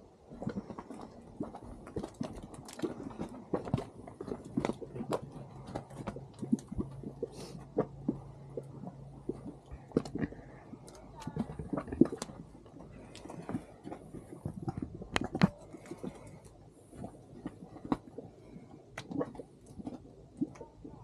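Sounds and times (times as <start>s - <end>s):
mud pot bubbling: 0.0s - 21.0s.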